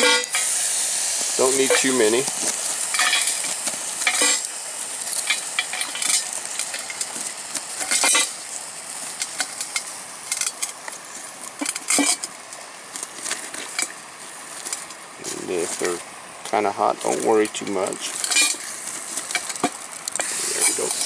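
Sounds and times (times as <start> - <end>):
campfire crackling: 0.0 - 21.0
stick scraping charcoal: 0.0 - 21.0.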